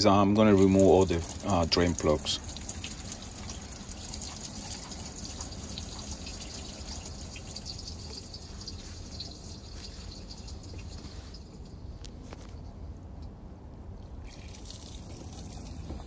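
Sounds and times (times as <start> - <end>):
water trickling and dripping: 0.3 - 12.2, 14.0 - 16.0.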